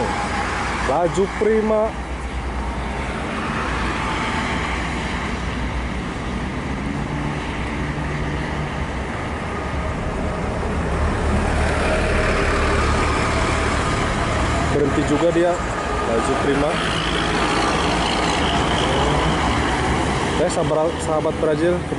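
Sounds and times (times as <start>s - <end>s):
traffic engine rumble: 0.0s - 21.9s.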